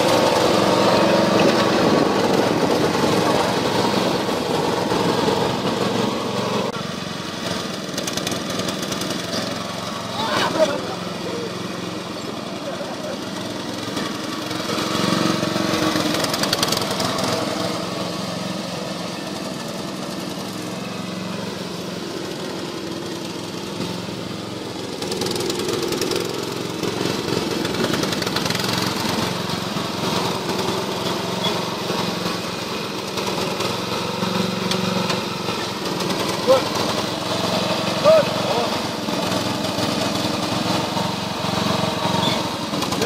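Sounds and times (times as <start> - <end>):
lawn mower engine running: 0.0 - 43.0.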